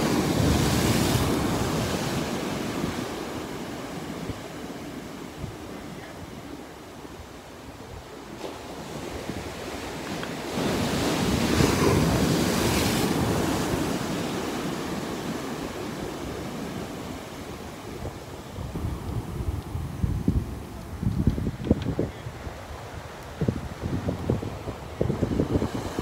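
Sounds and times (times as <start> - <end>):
ocean surf breaking on sand: 0.0 - 26.0
wind rumbling on microphone: 0.0 - 26.0.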